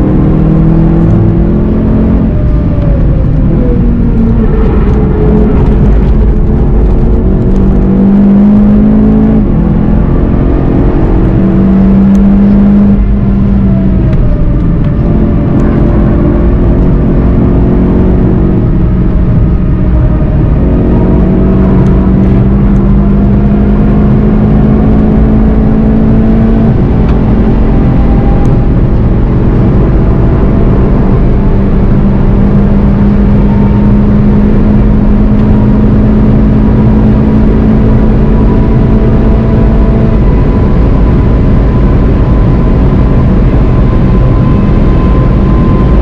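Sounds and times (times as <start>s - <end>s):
car engine accelerating: 0.0s - 46.0s
road and wind noise: 0.0s - 46.0s.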